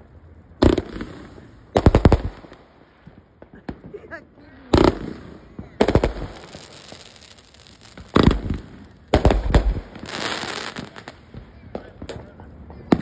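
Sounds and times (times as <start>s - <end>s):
fireworks crackling shower: 0.0s - 13.0s
small fireworks pops: 0.0s - 13.0s
fireworks bangs: 0.6s - 13.0s.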